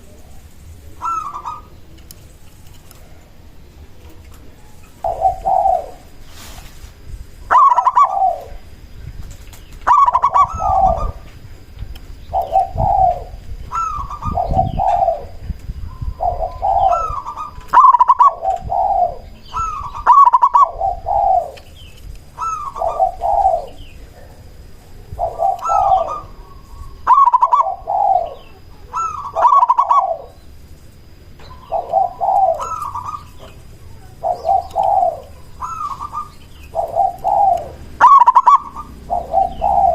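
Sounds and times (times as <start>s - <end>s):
dove cooing: 0.0s - 2.0s, 3.0s - 6.6s, 7.4s - 11.5s, 12.2s - 39.9s.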